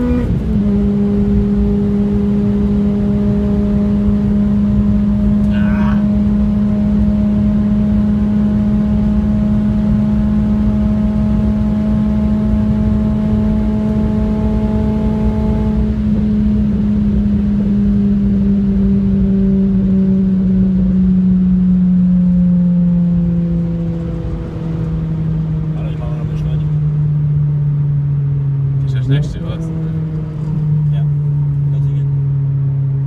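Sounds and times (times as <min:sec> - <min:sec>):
car engine at high speed: 0:00.0 - 0:33.0
road and wind rumble: 0:00.0 - 0:33.0.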